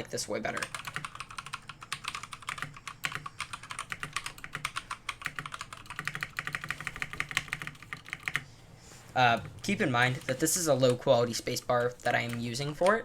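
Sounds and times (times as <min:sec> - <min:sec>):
fast typing on mechanical keyboard: 0:00.5 - 0:08.4, 0:09.9 - 0:13.0.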